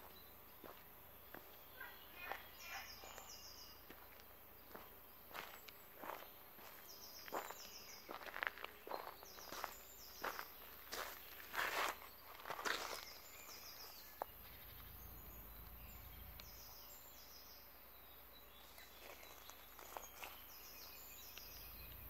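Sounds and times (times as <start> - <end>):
faint footsteps: 0.0 - 14.4, 18.6 - 22.0
small bird calling: 0.0 - 22.0.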